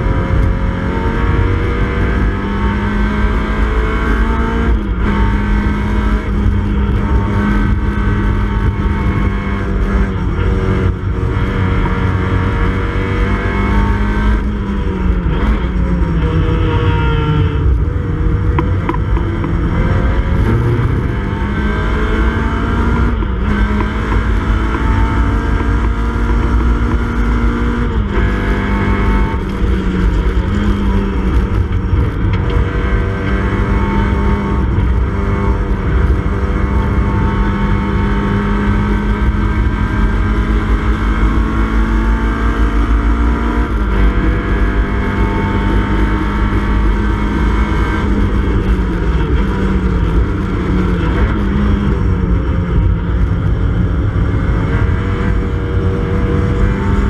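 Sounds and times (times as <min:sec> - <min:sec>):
car engine racing at high revs: 0:00.0 - 0:57.0.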